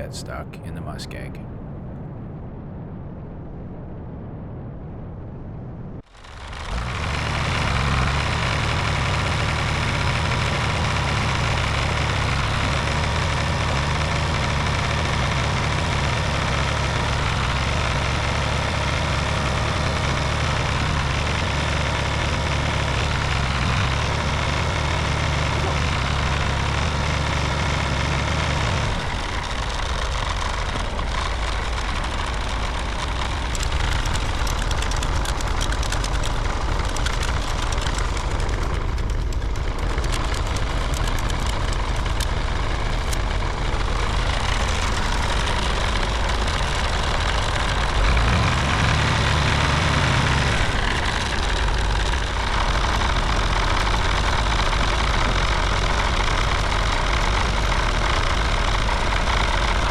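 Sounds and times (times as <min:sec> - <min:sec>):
vehicle engine running: 0:06.0 - 0:59.9.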